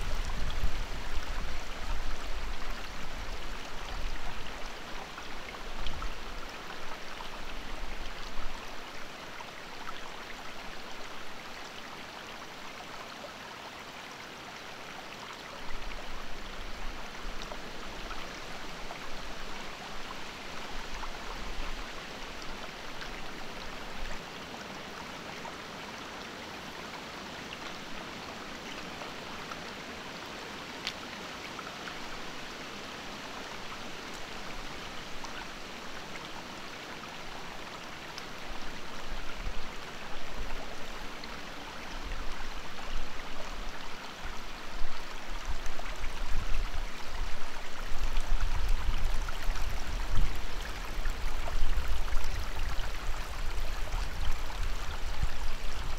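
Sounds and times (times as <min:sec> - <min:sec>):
creek babbling over stones: 0:00.0 - 0:55.9.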